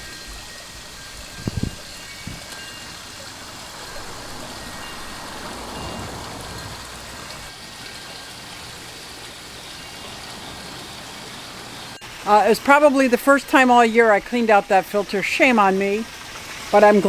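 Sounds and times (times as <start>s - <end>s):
pond waterfall splashing: 0.0s - 17.0s.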